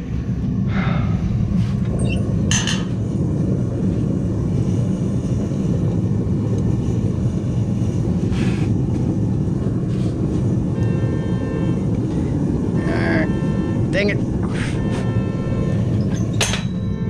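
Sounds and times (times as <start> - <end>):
faint multi-pitched hum: 0.0 - 17.0
forge rushing noise: 0.0 - 17.0.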